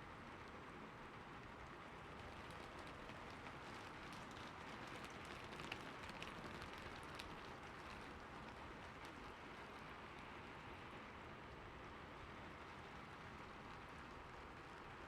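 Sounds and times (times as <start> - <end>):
soft rain falling: 0.0 - 15.0.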